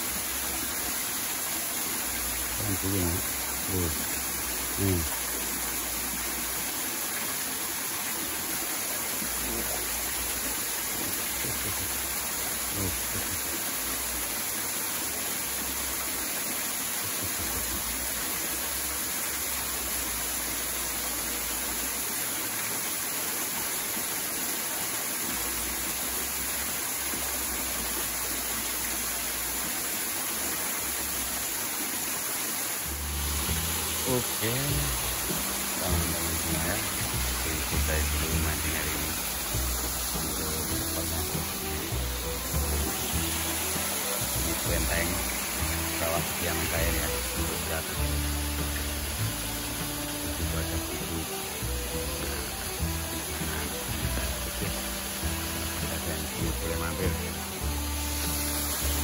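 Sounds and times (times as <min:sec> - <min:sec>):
stream spilling over rocks: 0:00.0 - 0:59.0.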